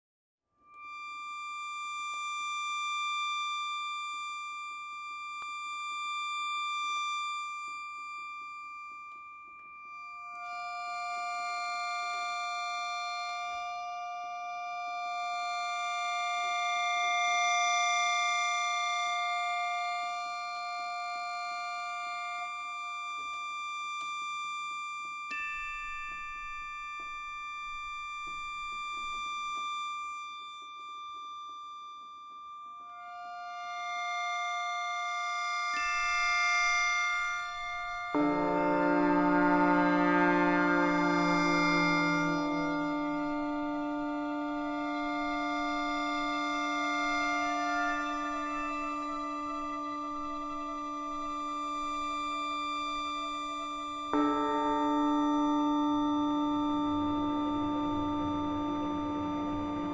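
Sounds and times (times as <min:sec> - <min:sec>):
slow film score with held tones: 0:00.6 - 0:59.9.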